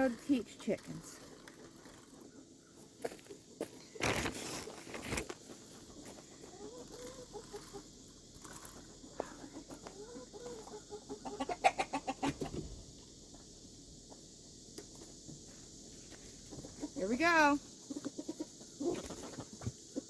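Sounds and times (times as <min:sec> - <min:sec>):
chickens clucking: 0:00.0 - 0:03.7, 0:05.5 - 0:20.0.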